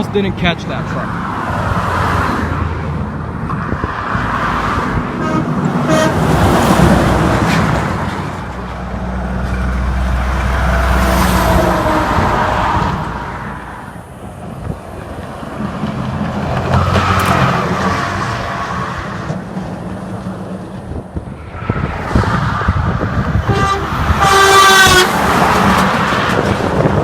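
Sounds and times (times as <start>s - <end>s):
truck engine drone: 0.0s - 27.0s.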